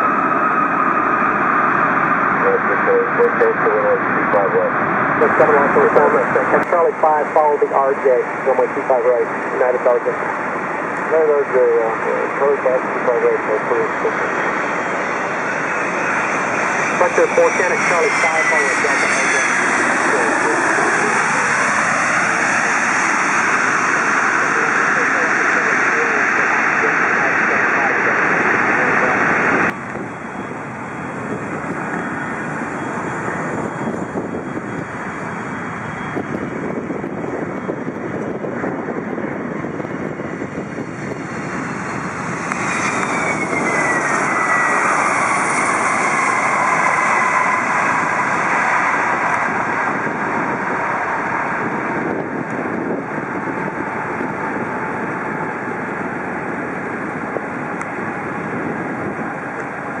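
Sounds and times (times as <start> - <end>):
jet engines rushing: 0.0 - 60.0
jet whine sliding down in pitch: 0.0 - 60.0.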